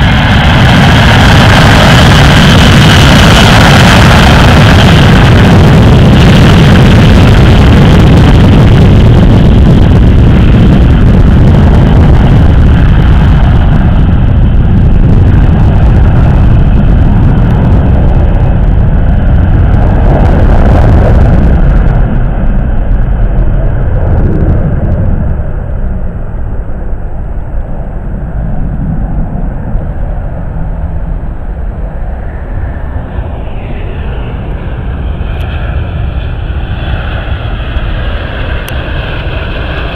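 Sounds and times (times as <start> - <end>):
jet engines roaring at takeoff: 0.0 - 39.9.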